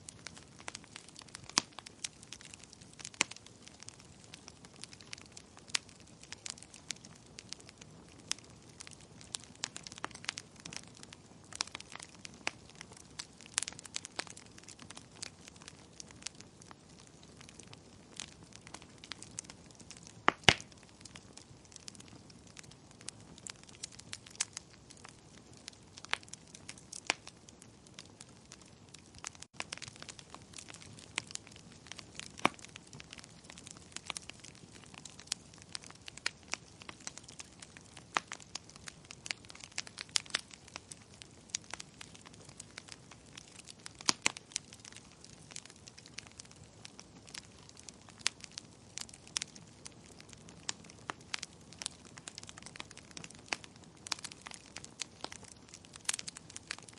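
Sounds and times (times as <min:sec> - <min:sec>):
flame rustle: 0:00.0 - 0:56.9
wood fire crackling: 0:00.0 - 0:56.9.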